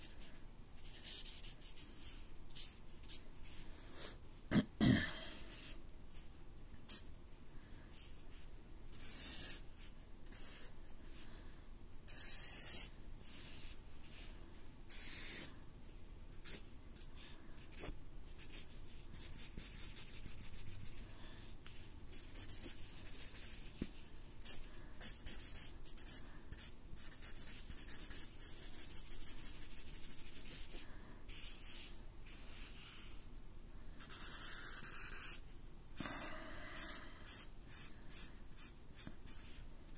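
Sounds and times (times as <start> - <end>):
marker scratching on paper: 0.0 - 4.1, 5.4 - 6.3, 6.9 - 7.1, 8.0 - 10.7, 12.1 - 14.3, 14.9 - 15.6, 16.4 - 33.2, 34.0 - 35.4, 36.0 - 39.9.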